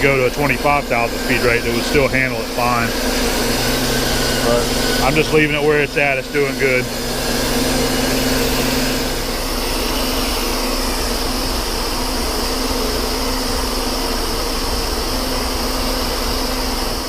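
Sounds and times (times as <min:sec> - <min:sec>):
lathe cutting steel: 0:00.0 - 0:17.0
machine hum: 0:00.0 - 0:17.0.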